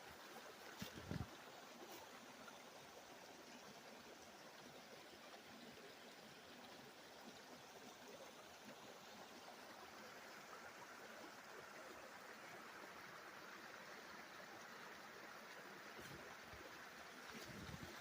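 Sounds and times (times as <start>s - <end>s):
stream running water: 0.0s - 18.0s.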